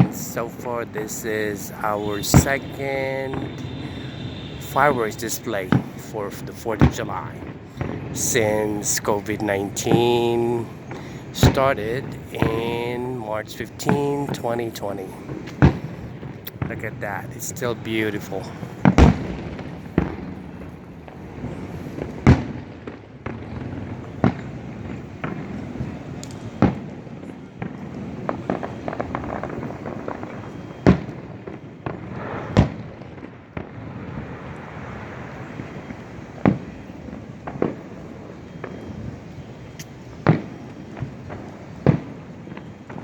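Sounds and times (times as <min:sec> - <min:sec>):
distant fireworks bangs: 0:00.0 - 0:43.0.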